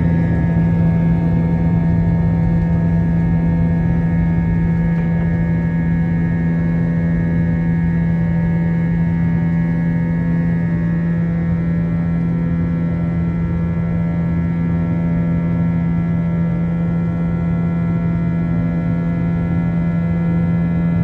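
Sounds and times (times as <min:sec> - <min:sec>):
jet engine drone in cabin: 0:00.0 - 0:21.0.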